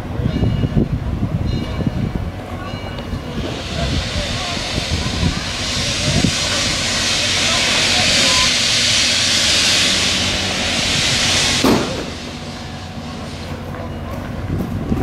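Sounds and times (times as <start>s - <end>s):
train low rumble: 0.0s - 15.0s
locomotive steam hissing: 2.6s - 14.8s.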